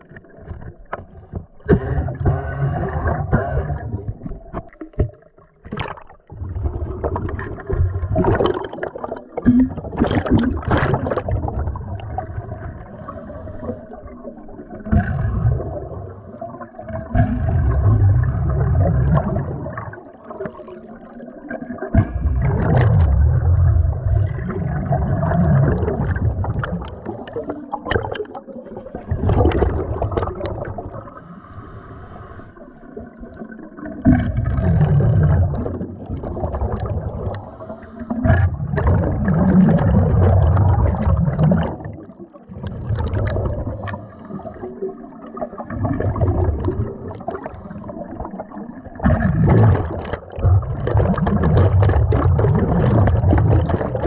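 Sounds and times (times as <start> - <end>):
underwater air bubbling: 0.0 - 54.0.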